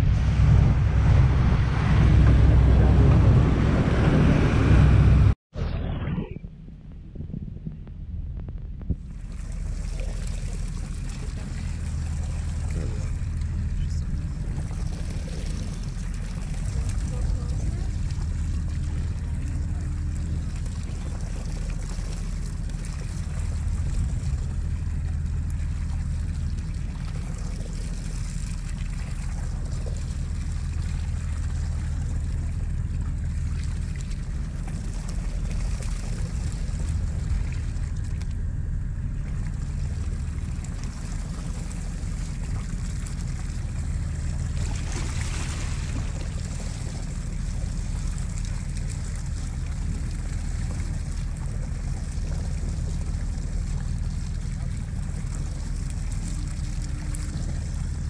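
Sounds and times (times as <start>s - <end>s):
water and wind hissing: 0.0s - 5.4s, 8.9s - 58.0s
boat engine humming: 0.0s - 58.0s.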